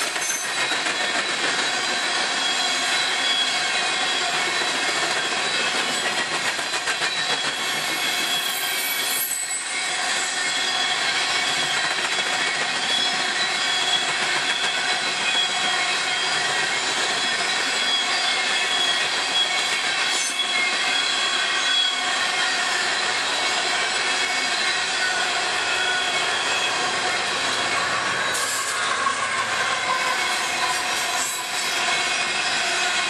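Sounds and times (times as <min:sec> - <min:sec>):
high wheel squeal: 0:00.0 - 0:33.0
steel wheels on rail: 0:00.0 - 0:33.0.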